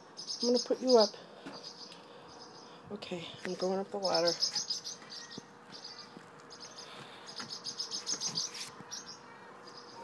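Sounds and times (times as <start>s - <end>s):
songbird alarm chirps: 0.0s - 10.0s.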